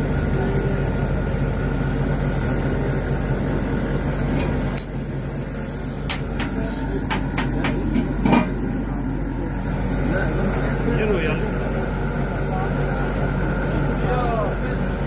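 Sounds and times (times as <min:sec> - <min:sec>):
grill humming and hissing: 0:00.0 - 0:15.0.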